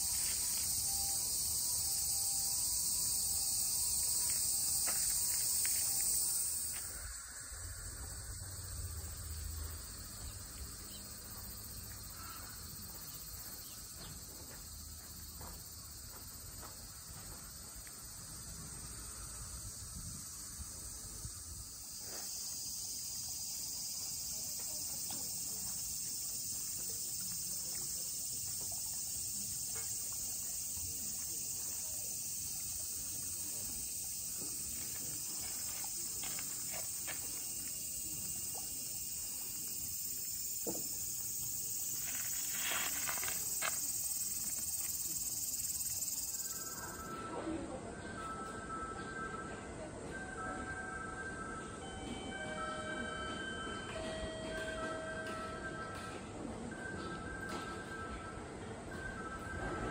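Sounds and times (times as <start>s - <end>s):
high-pitched insect chorus: 0.0s - 56.4s.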